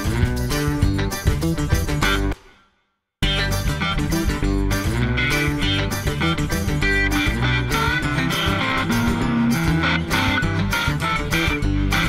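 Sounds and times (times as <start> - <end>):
guitar music: 0.0 - 2.4, 3.2 - 12.0.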